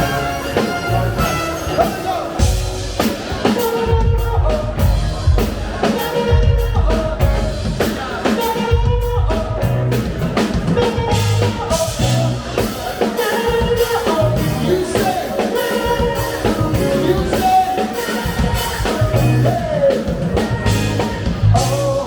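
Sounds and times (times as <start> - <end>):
bass guitar: 0.0 - 22.0
drum kit beat: 0.0 - 22.0
live funk band playing: 0.0 - 22.0.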